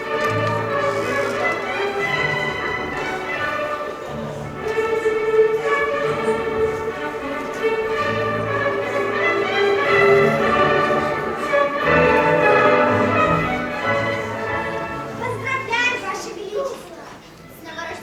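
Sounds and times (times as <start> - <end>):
sustained string notes: 0.0 - 15.7
orchestral classical music: 0.0 - 16.5.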